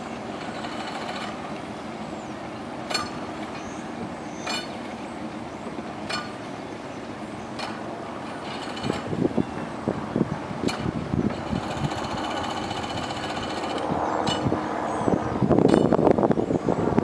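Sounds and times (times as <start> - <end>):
boat engine idling: 0.0 - 16.5.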